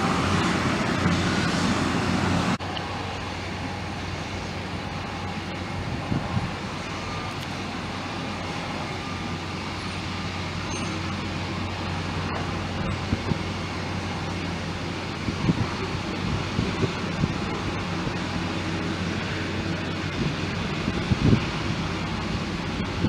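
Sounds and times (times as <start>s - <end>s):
airport background hum: 0.0s - 23.0s
jet engine noise: 0.0s - 23.0s.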